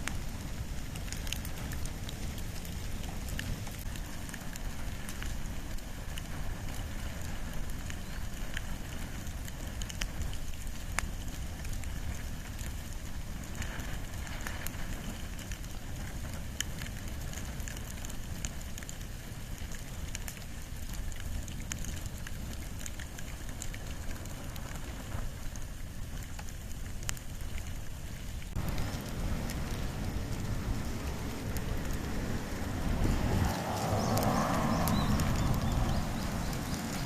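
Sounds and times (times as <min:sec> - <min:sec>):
campfire crackling and popping: 0:00.0 - 0:37.0
low fire rumble: 0:00.0 - 0:37.0.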